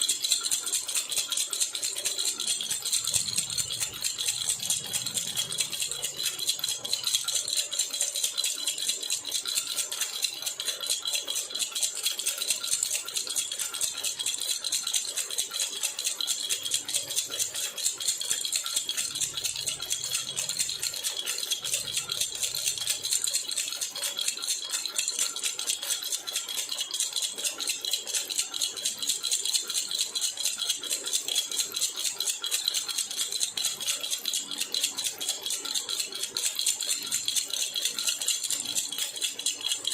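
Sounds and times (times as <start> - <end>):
baby rattle shaken rapidly: 0.0 - 39.9.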